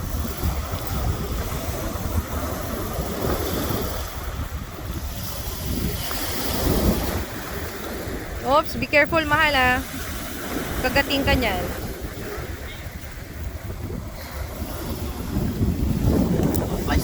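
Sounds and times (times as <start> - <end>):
water washing: 0.0 - 17.0
wind buffeting microphone: 0.0 - 17.0.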